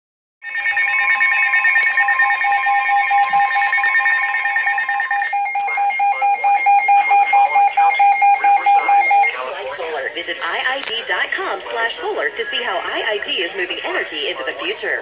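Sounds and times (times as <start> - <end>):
rapid pulsing beeps: 0.4 - 15.0
weather radio alert tones: 0.4 - 15.0.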